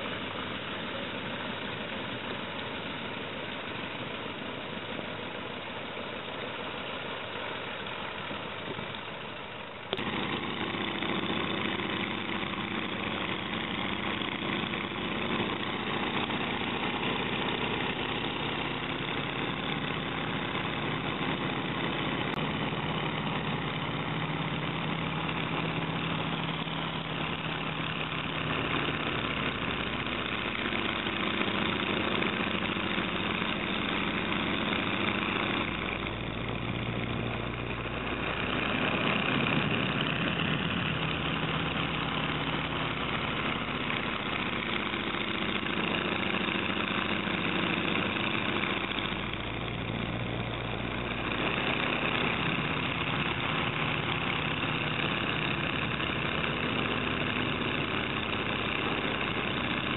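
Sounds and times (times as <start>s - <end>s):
biplane radial engine running: 0.0s - 59.9s.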